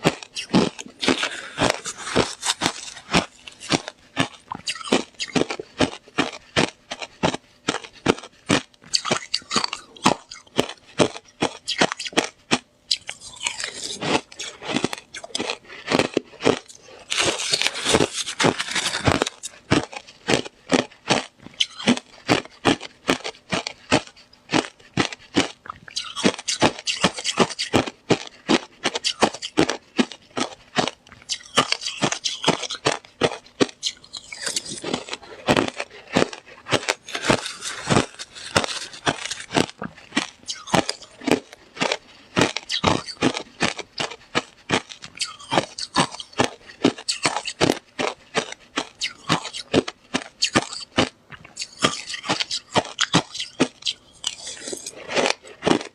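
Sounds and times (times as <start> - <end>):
ice being chewed: 0.0 - 55.9.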